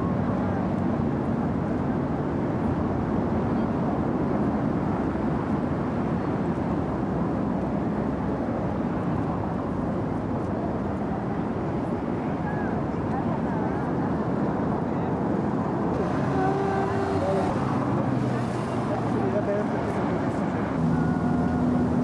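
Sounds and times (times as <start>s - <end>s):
busy city traffic: 0.0s - 22.0s.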